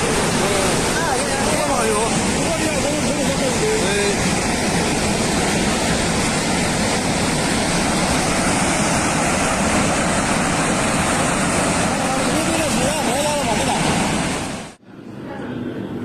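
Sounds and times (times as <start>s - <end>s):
floodwater rushing: 0.0s - 14.8s.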